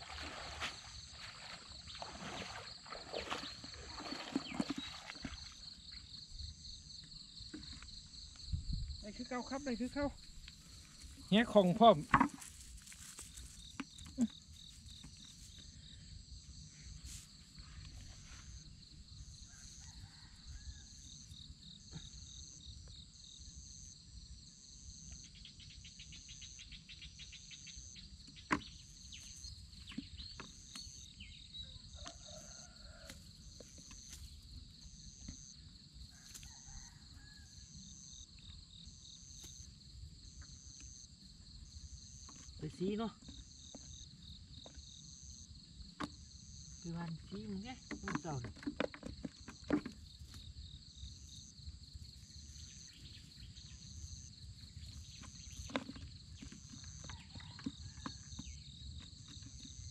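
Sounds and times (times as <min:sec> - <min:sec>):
pulsing high insect call: 0:00.0 - 0:48.4, 0:49.3 - 0:59.9
insects trilling: 0:00.0 - 0:59.9.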